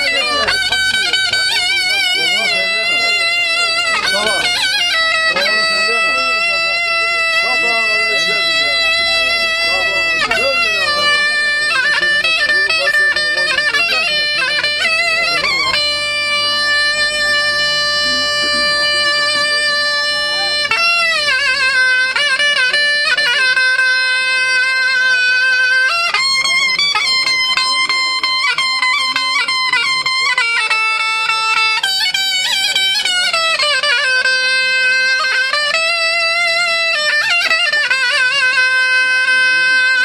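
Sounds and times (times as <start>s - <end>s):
folk wind pipe melody: 0.0s - 40.0s.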